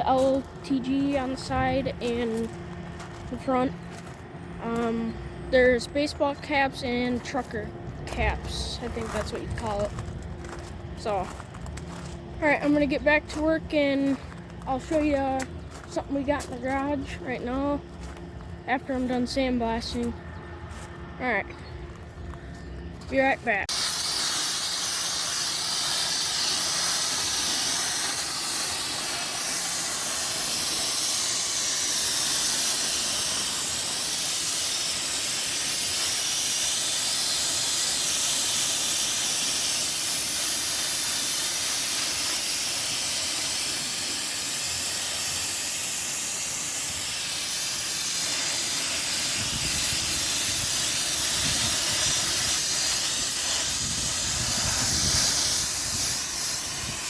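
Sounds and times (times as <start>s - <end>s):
sandblaster hissing: 0.0s - 20.1s, 22.8s - 57.0s.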